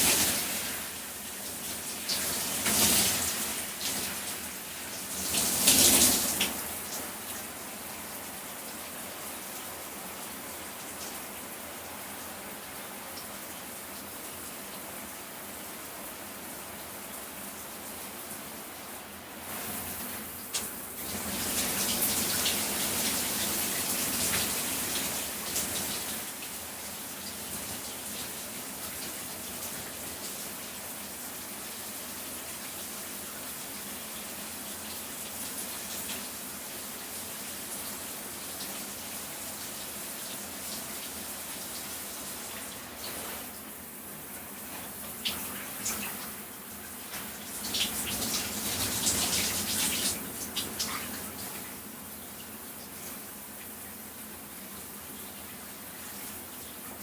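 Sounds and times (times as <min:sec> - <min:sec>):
shower water hissing: 0:00.0 - 0:57.0.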